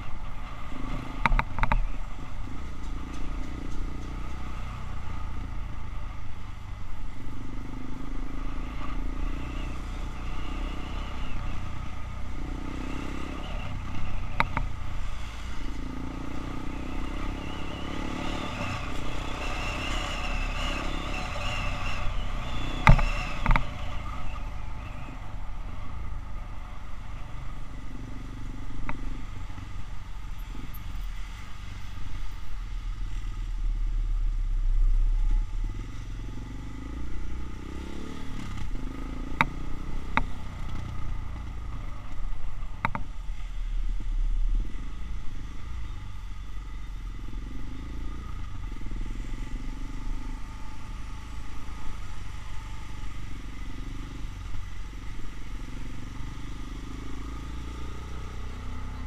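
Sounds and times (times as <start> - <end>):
road rumble: 0.0 - 59.0
wind: 0.0 - 59.0
motorcycle engine running: 10.2 - 59.0.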